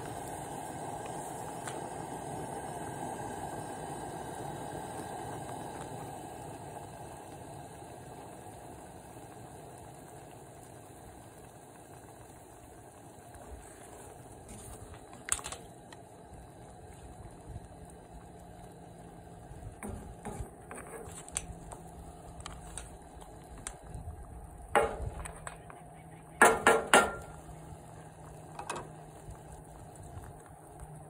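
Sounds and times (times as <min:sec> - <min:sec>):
broth bubbling in a skillet: 0:00.0 - 0:31.0
stove burner hiss: 0:00.0 - 0:31.0.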